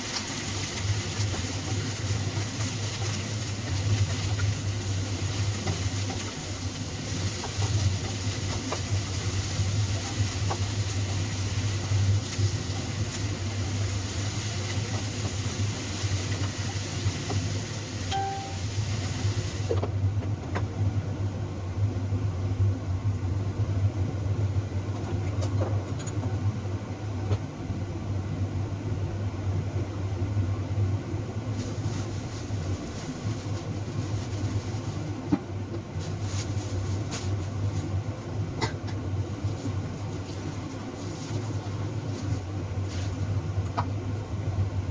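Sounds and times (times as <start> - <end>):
low machine hum: 0.0 - 44.9.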